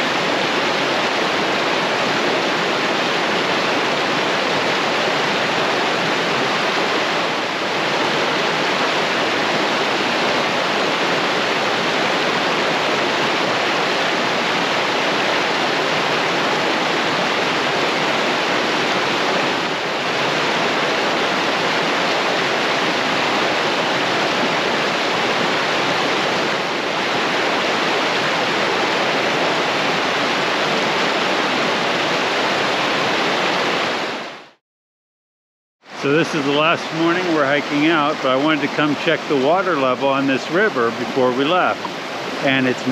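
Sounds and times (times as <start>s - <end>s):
rushing water roaring: 0.0s - 34.6s, 35.8s - 42.9s.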